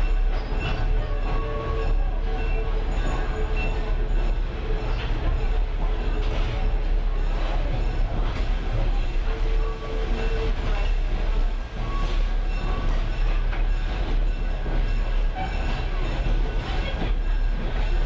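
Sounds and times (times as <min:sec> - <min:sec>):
train car rumbling and rattling: 0:00.0 - 0:18.0.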